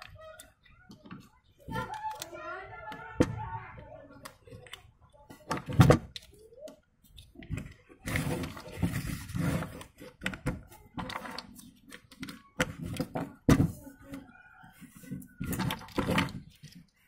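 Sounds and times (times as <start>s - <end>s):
plastic bricks rustling and scraping: 0.0s - 17.0s.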